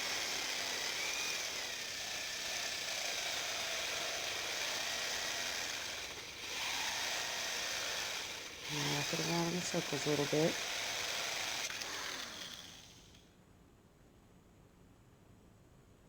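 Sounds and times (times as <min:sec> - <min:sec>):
electric drill grinding glass: 0:00.0 - 0:13.2.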